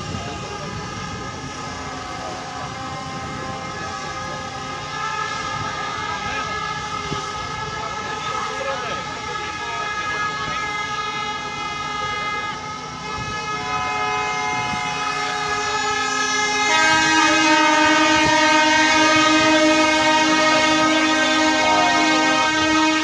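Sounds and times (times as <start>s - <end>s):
many horns blowing: 0.0s - 23.0s.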